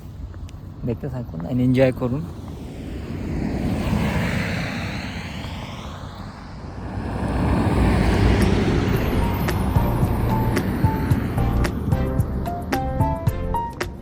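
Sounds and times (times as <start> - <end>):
vehicles driving past: 2.0 - 14.0.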